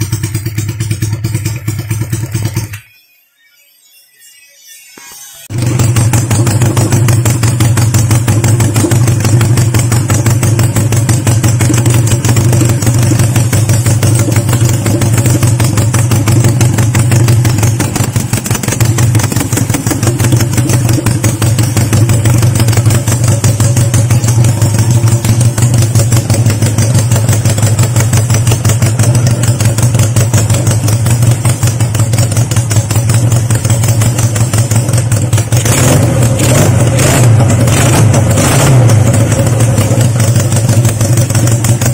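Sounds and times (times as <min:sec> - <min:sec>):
motorcycle engine idling: 0:00.0 - 0:02.9, 0:05.5 - 0:41.9.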